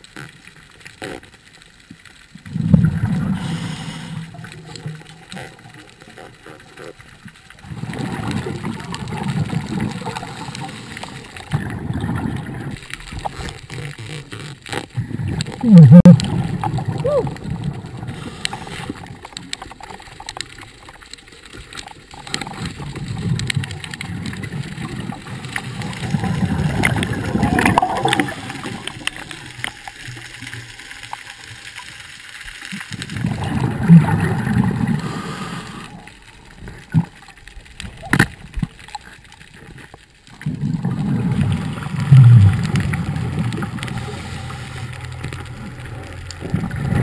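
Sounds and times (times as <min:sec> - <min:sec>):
regulator bubbles gurgling underwater: 0:00.0 - 0:47.0.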